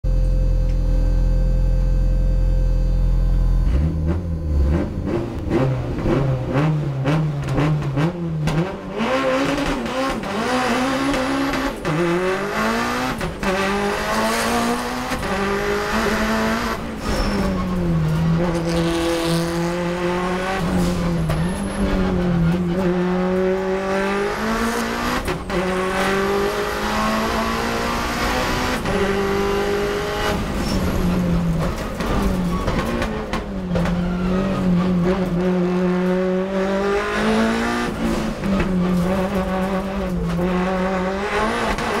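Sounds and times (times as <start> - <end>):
race car engine accelerating: 3.1 - 42.0.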